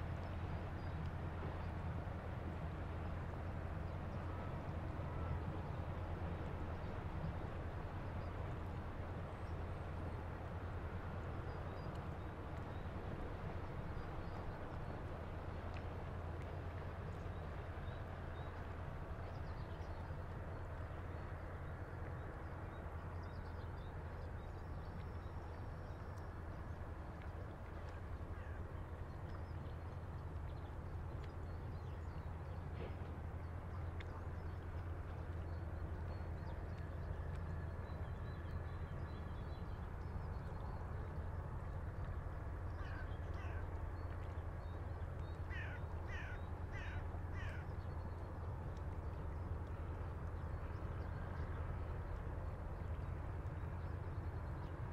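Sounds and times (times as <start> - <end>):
light breeze: 0.0 - 54.9.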